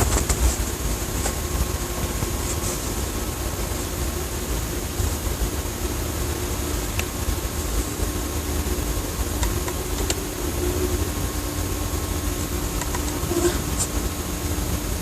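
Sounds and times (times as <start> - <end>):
faint steady hum: 0.0 - 15.0
low rumbling drone: 0.0 - 15.0.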